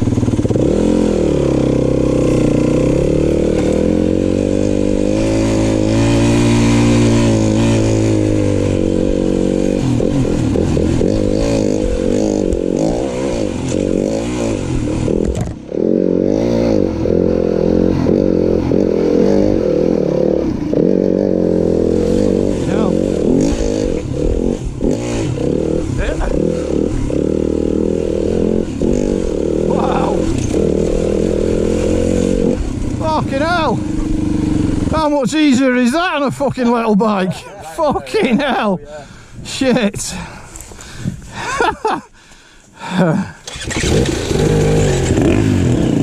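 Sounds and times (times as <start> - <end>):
dirt bike engine revving: 0.0 - 42.0, 42.8 - 46.0.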